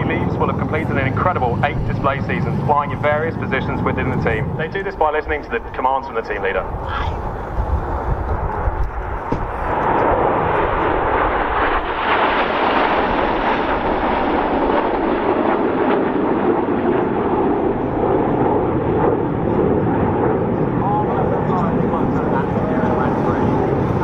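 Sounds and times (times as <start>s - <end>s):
jet roar: 0.0s - 24.0s.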